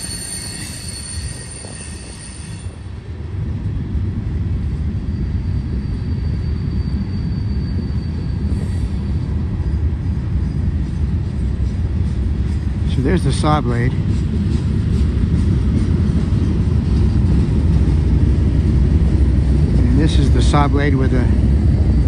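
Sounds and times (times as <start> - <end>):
high squeal from train wheels: 0.0 - 3.0, 4.6 - 22.0
freight train wheels rumbling: 0.0 - 22.0.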